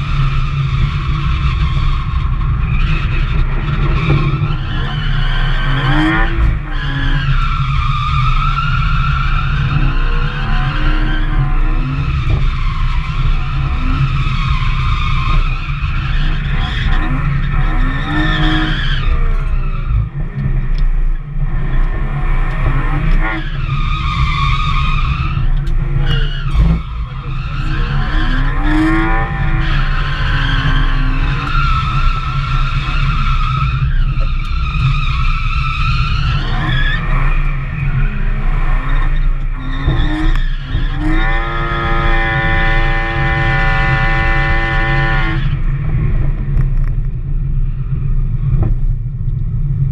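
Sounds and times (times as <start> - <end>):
car engine revving: 0.0 - 48.7.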